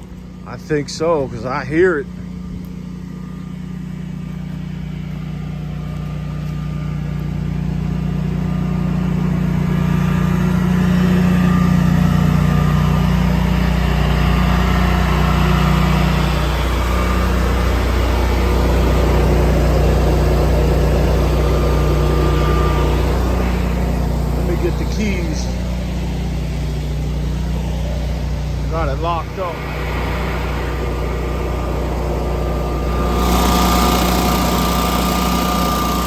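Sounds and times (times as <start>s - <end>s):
generator engine humming: 0.0s - 36.0s.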